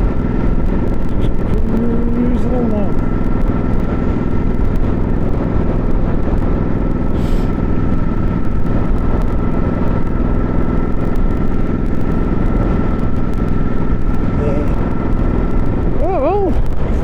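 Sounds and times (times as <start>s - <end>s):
motorcycle engine cruising: 0.0s - 17.0s
wind noise: 0.0s - 17.0s.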